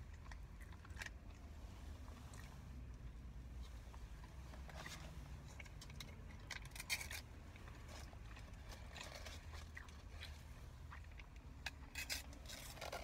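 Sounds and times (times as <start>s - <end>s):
close chewing and mouth sounds: 0.0s - 13.0s.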